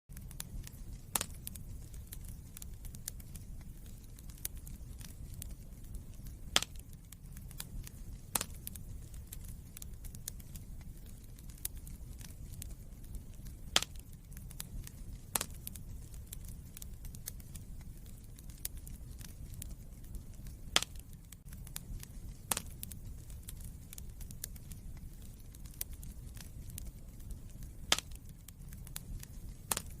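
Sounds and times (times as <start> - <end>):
sharp pops from fire: 0.1 - 30.0
wood fire crackling: 0.1 - 30.0.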